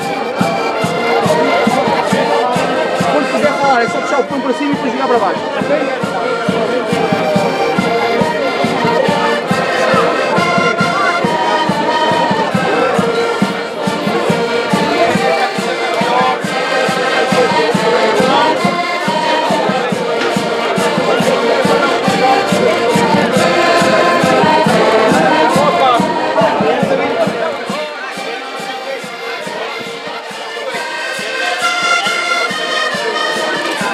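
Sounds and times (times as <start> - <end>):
accordions playing folk music: 0.0 - 33.9
steady beat: 0.0 - 33.9.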